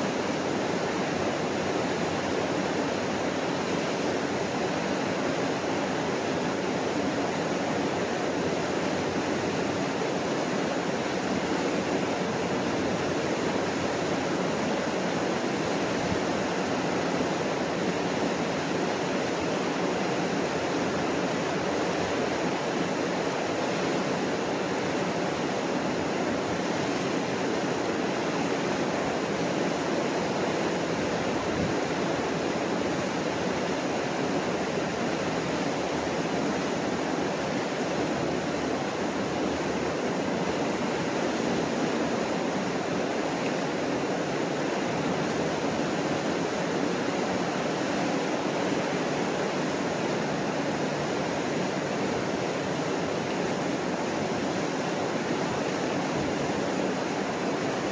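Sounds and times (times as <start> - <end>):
water rushing over rocks: 0.0 - 57.9.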